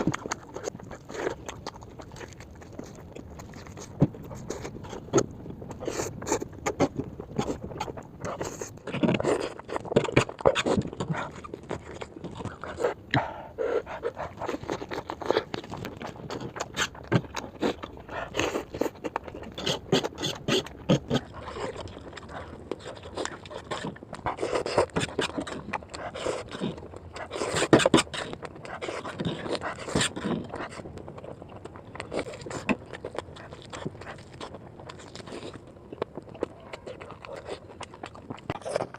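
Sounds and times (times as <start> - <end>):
mouth clicks and smacks: 0.0 - 38.9
wet chewing of noodles: 0.0 - 38.9.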